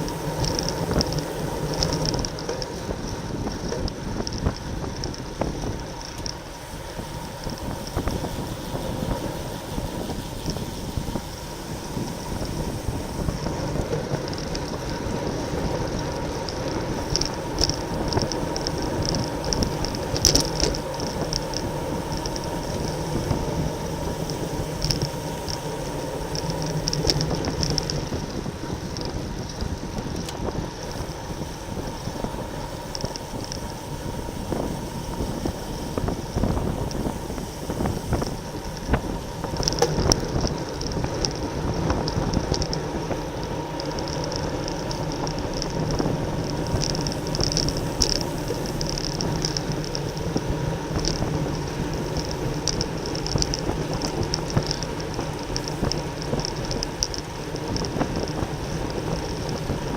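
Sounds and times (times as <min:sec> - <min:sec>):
road and tyre noise: 0:00.0 - 0:59.9
wind rushing over microphone: 0:00.0 - 0:59.9.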